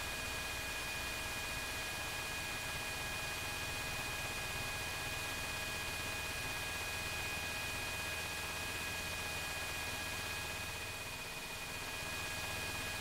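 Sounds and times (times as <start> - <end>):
constant high whine: 0.0 - 13.0.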